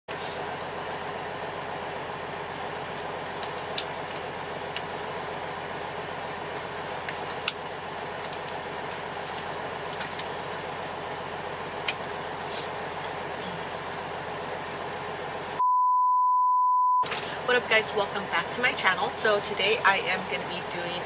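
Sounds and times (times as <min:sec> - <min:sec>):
truck engine and road noise: 0:00.1 - 0:15.6, 0:17.0 - 0:21.0.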